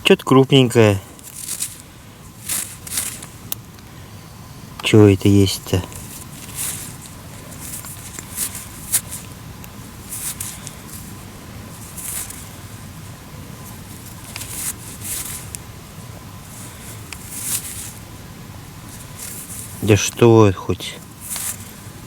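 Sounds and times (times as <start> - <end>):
faint steady tone: 0.0 - 22.0
fingers rubbing soil scratchy rustling: 0.3 - 4.0, 4.8 - 22.0.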